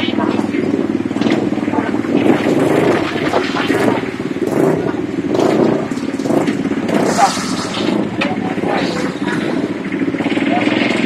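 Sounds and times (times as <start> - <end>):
faint voices: 0.0 - 11.0
vehicle engine droning: 0.0 - 11.0.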